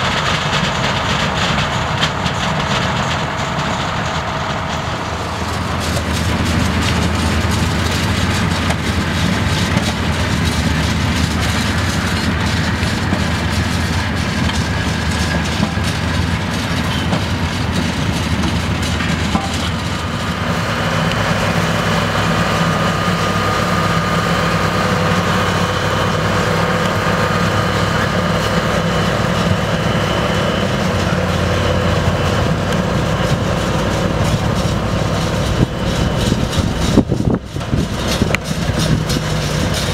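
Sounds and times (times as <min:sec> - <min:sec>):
diesel engine hum: 0:00.0 - 0:39.9
harvester elevator rattling: 0:00.0 - 0:39.9.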